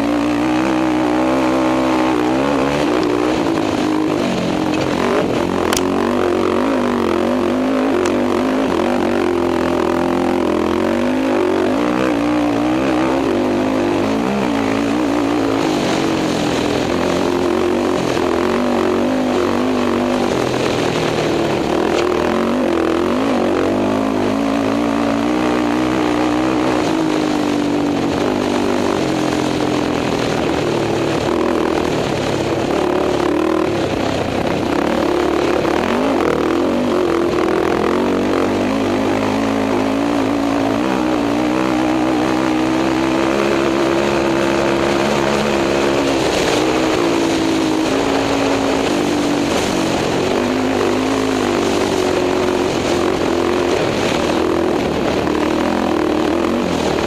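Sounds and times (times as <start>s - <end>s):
quad engine running hard: 0.0s - 57.0s
wind noise: 0.0s - 57.0s.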